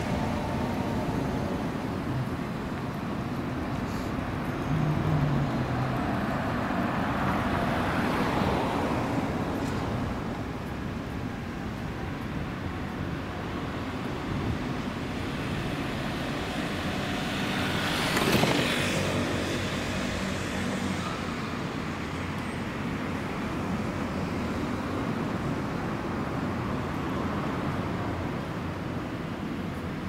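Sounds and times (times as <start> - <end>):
road traffic rushing: 0.0 - 30.0.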